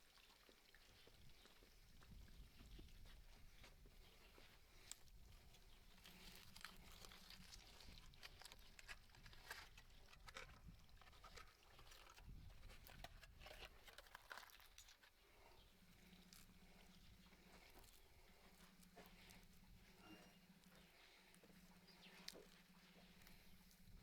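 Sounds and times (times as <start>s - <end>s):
faint clicks and crunching: 0.0s - 24.0s.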